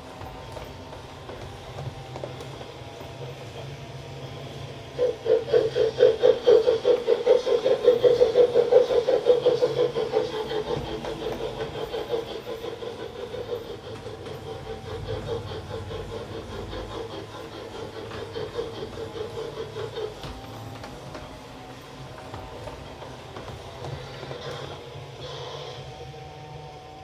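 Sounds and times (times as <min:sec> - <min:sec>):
steam locomotive chuffing from loudspeaker: 0:00.0 - 0:27.0.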